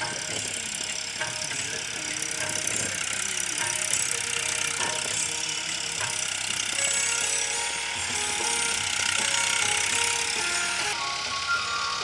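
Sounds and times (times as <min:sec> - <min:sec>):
music with held melody notes: 0:00.0 - 0:12.0.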